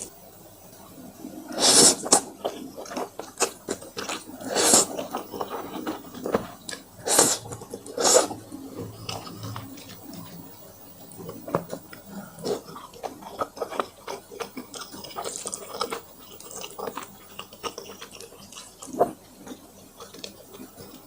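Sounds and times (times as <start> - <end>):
noodle slurping and chewing: 1.2 - 10.4, 11.0 - 21.0.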